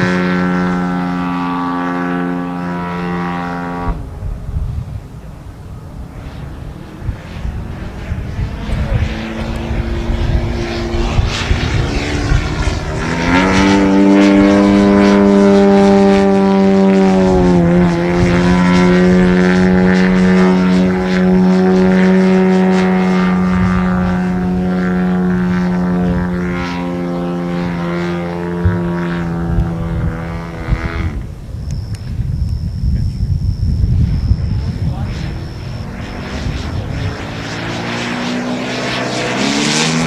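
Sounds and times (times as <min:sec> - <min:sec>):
propeller plane droning overhead: 0:00.0 - 0:40.0.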